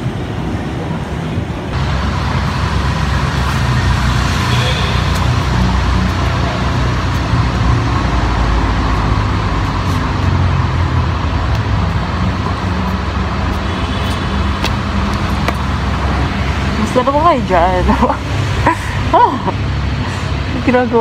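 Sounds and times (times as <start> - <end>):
low engine hum: 0.0 - 21.0
road traffic rumble: 0.0 - 21.0.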